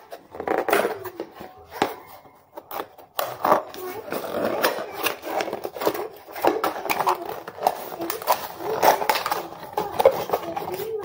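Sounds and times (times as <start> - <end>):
cardboard packaging scraping and crinkling: 0.0 - 11.0.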